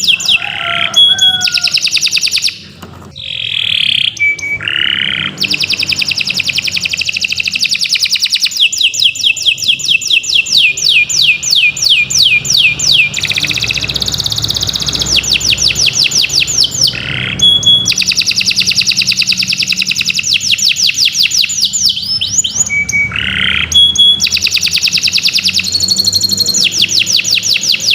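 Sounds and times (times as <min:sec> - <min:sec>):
canary singing trills: 0:00.0 - 0:27.9.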